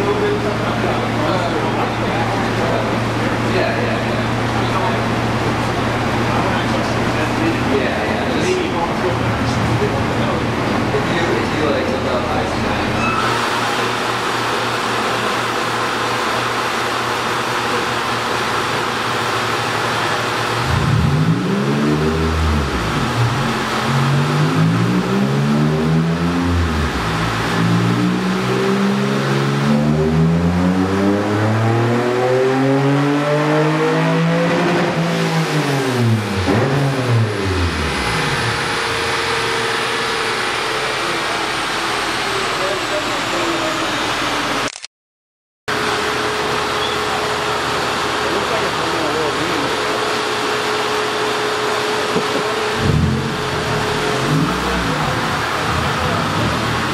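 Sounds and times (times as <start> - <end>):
car engine revving on dynamometer: 0.0 - 44.6, 45.7 - 56.9
steady background noise: 0.0 - 44.8, 45.7 - 56.9.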